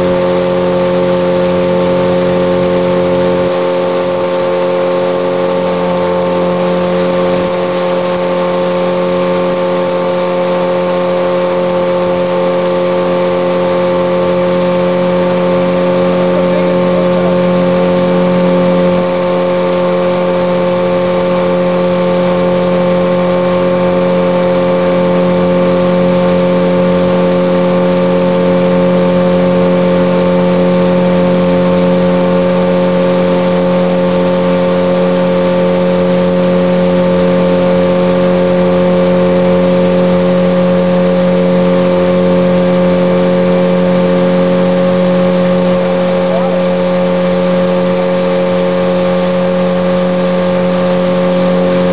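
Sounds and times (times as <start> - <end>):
outboard motor running: 0.0 - 51.9.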